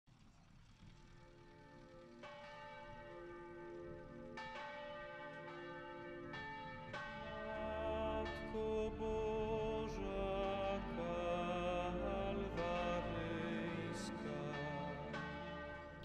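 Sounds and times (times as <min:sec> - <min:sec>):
church bell ringing: 0:01.2 - 0:16.0.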